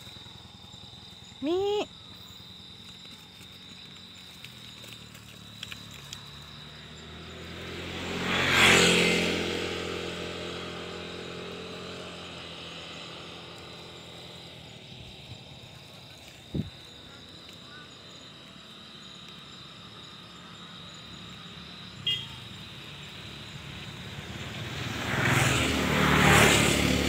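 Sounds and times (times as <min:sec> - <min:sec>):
high insect drone: 0:00.0 - 0:27.0
motor vehicle passing by: 0:04.0 - 0:27.0.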